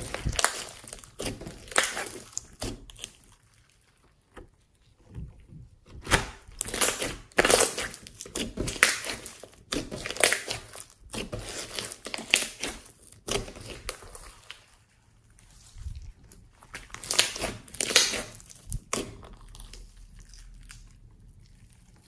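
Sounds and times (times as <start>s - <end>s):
slime squelching and popping: 0.0s - 4.7s, 5.7s - 14.9s, 15.8s - 22.0s.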